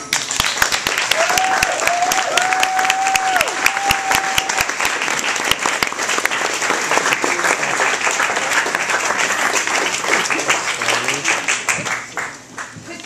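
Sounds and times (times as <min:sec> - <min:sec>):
audience applause: 0:00.0 - 0:13.0.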